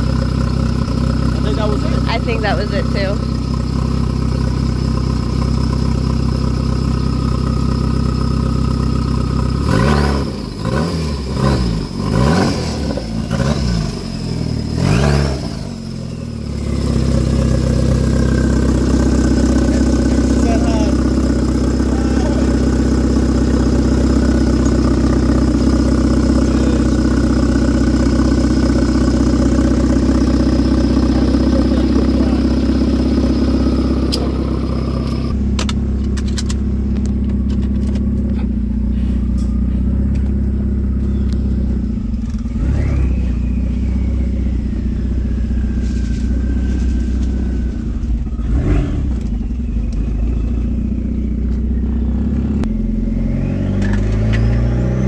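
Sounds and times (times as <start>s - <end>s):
car engine running: 0.0s - 55.0s
high turbo whine: 0.0s - 55.0s.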